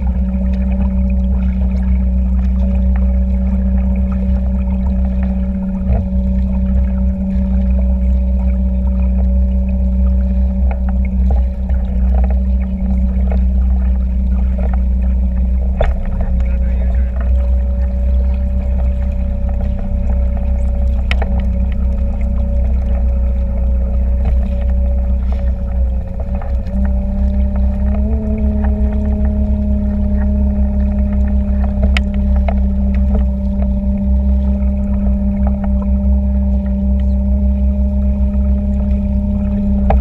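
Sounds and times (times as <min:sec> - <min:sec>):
boat motor running: 0:00.0 - 0:40.0.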